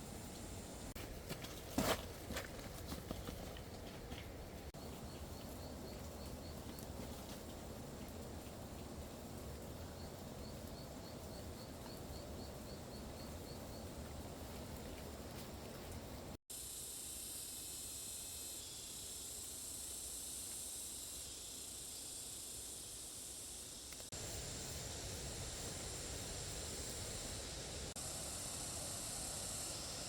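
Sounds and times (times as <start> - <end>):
outdoor ambient noise: 0.0 - 30.0
steady high hiss: 4.6 - 30.0.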